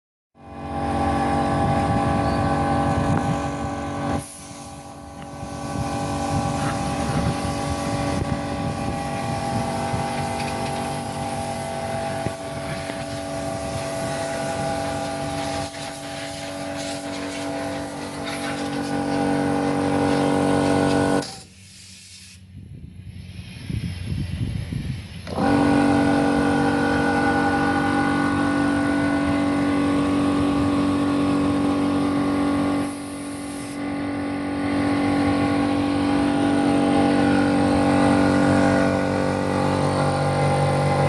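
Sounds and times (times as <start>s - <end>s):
air compressor running: 0.4s - 41.0s.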